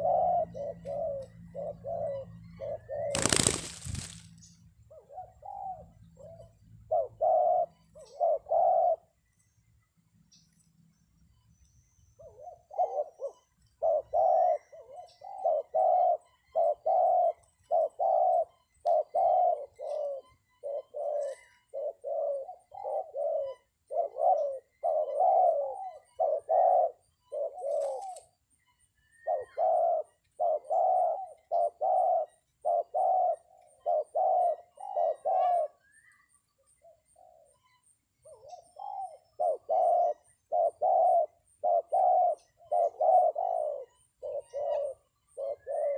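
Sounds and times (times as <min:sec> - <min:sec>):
dove cooing: 0:00.0 - 0:04.2, 0:04.9 - 0:09.2, 0:12.2 - 0:28.3, 0:29.2 - 0:36.1, 0:38.2 - 0:45.9
small birds chirping: 0:00.0 - 0:45.9.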